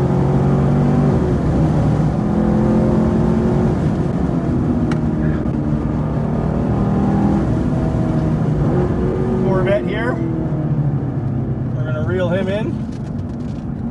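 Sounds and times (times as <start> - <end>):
car engine droning: 0.0 - 13.9.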